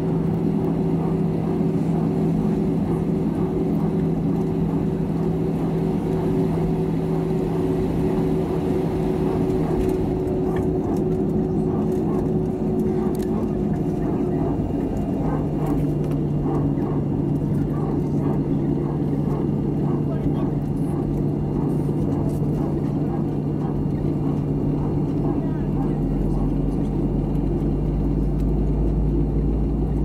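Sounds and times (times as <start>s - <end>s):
jet engines droning: 0.0s - 30.0s
low cabin rumble: 0.0s - 30.0s.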